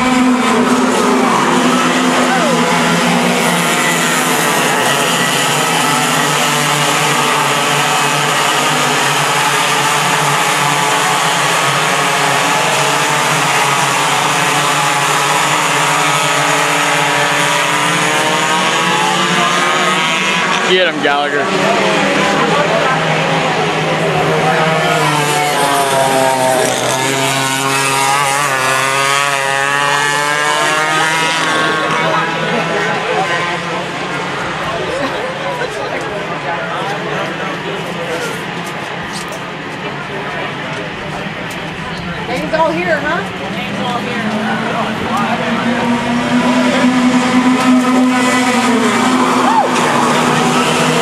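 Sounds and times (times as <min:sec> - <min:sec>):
kart engines buzzing: 0:00.0 - 0:51.0.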